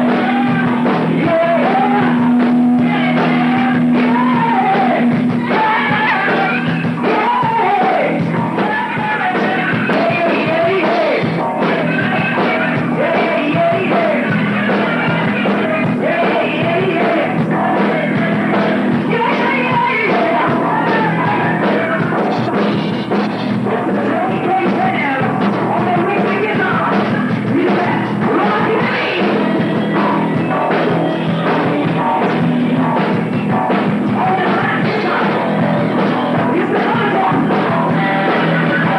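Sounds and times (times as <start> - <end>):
drum kit: 0.0 - 38.9
heavy metal band playing: 0.0 - 38.9
person singing: 0.0 - 38.9.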